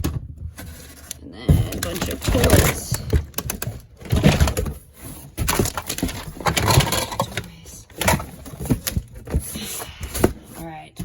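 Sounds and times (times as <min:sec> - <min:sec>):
items knocking and clattering: 0:00.0 - 0:11.0.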